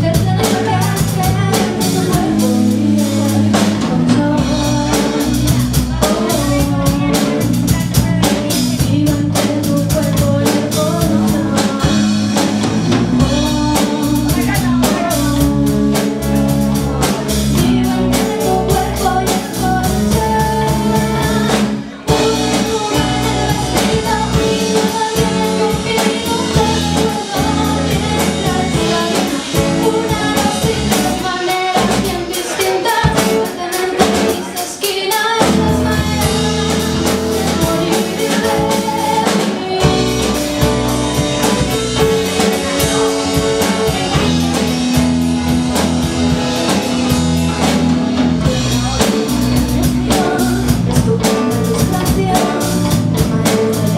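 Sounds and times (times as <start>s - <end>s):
song with drums and guitar: 0.0s - 53.9s.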